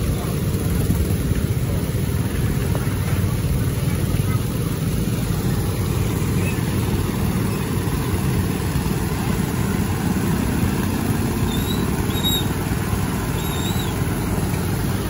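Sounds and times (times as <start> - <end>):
small petrol pump engines running: 0.0 - 15.0.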